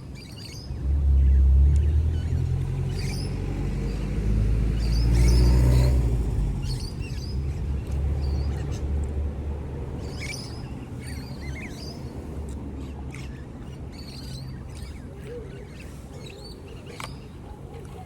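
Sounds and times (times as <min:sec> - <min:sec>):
small birds chirping: 0:00.0 - 0:18.0
vehicle engine rumble: 0:00.7 - 0:18.0.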